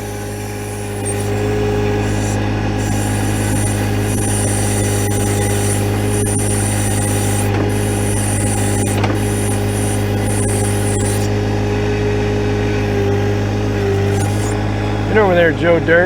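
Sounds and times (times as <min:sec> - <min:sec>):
thin high squeal: 0:00.0 - 0:11.3, 0:12.9 - 0:14.6
hydraulics working: 0:00.0 - 0:16.0
tractor diesel engine running: 0:00.0 - 0:16.0.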